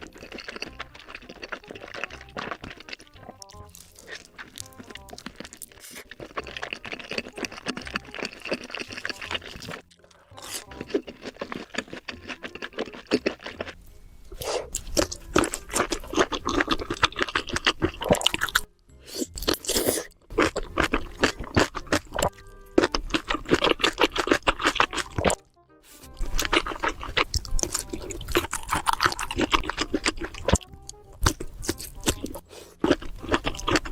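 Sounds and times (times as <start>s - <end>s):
crunchy chewing: 0.0s - 33.9s.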